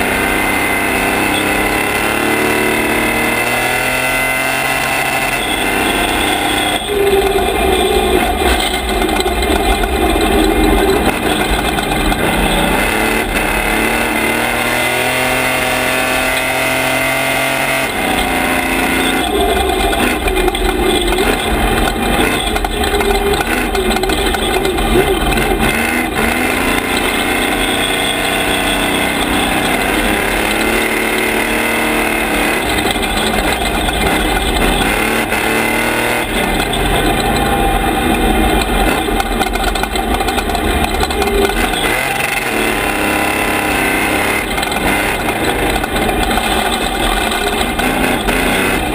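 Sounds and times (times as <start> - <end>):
race truck engine revving: 0.0 - 48.9.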